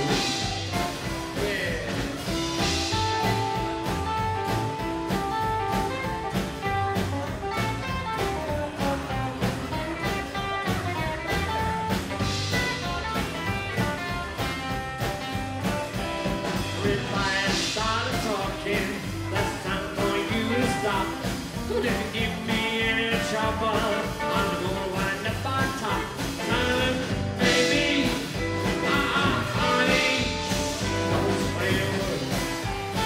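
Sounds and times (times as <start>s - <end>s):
drums: 0.0s - 33.0s
electric guitar melody: 0.0s - 33.0s
upright double bass: 0.0s - 33.0s.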